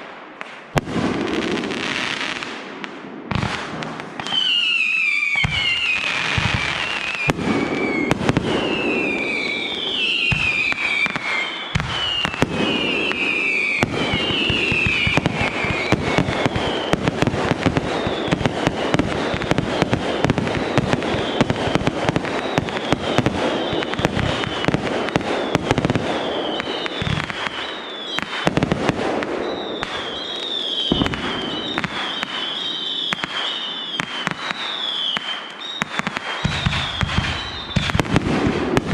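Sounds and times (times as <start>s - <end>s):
fireworks bangs and crackling: 0.0s - 38.9s
fireworks whistling: 3.3s - 38.9s.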